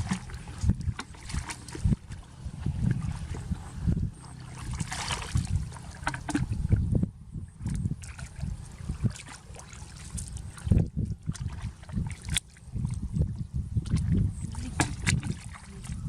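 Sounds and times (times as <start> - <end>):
water sloshing and trickling: 0.0 - 16.0.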